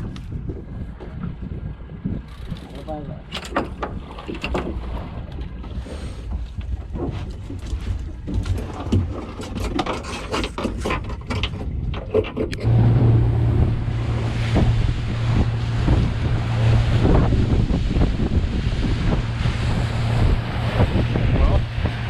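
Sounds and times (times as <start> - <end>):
outboard motor running: 0.0 - 22.0
wind noise on microphone: 0.0 - 22.0.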